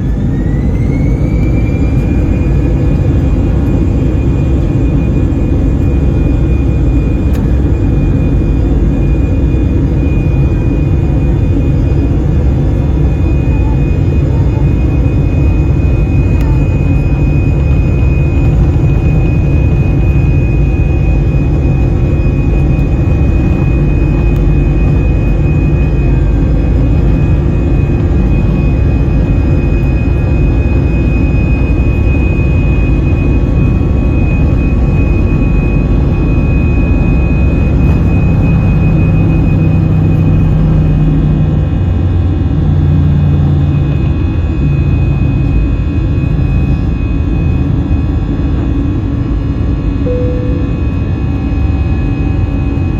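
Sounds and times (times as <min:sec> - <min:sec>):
high jet engine whine: 0:00.0 - 0:52.9
jet engine rumble in cabin: 0:00.0 - 0:52.9.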